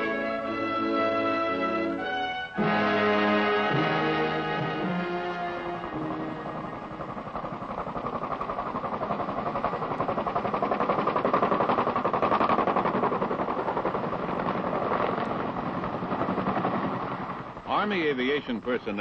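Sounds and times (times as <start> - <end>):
helicopter rotors beating: 0.0 - 19.0.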